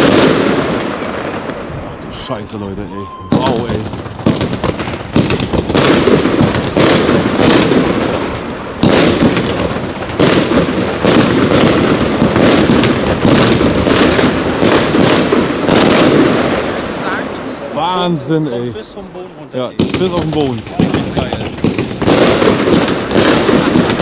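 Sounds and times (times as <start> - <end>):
firework cake launch and burst bangs: 0.0 - 2.5, 3.2 - 17.6, 19.8 - 24.0.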